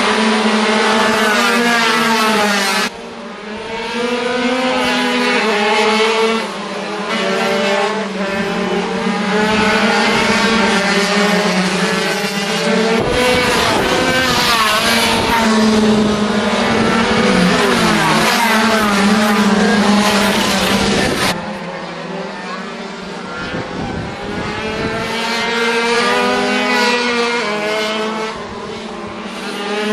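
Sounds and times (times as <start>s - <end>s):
two-stroke motorcycle engines revving: 0.0s - 29.9s.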